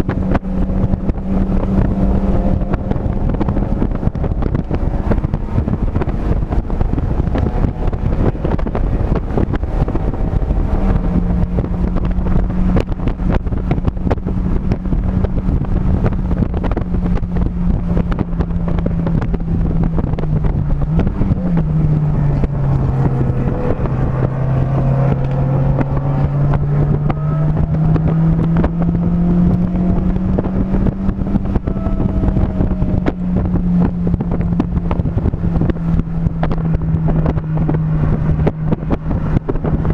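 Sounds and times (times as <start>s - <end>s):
race car engine: 0.0s - 39.9s
wind rushing on microphone: 0.0s - 39.9s.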